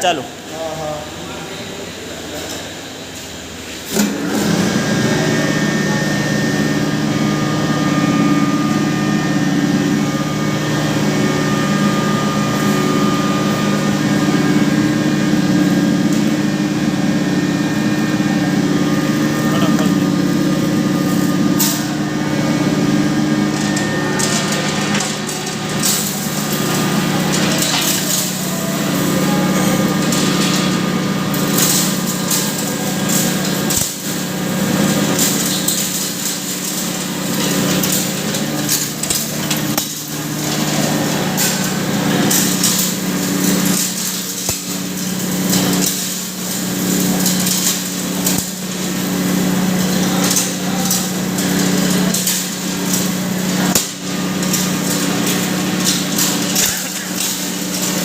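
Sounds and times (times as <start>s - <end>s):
hammer mill grinding: 3.7s - 58.0s.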